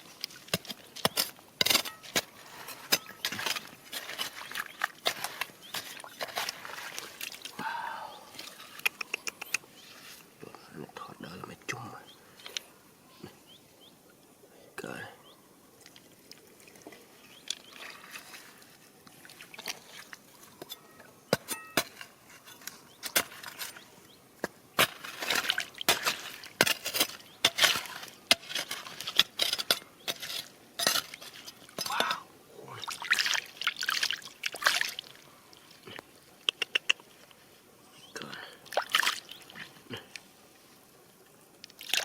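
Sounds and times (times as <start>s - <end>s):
water splashing and sloshing: 0.0s - 10.4s, 15.8s - 20.8s, 21.8s - 37.6s, 38.6s - 40.9s, 41.6s - 42.0s.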